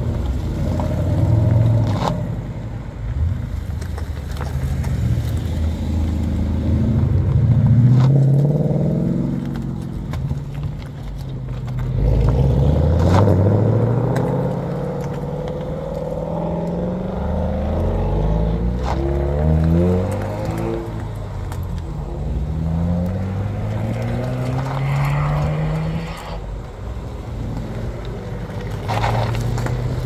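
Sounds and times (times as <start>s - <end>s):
car engines accelerating: 0.0s - 30.0s.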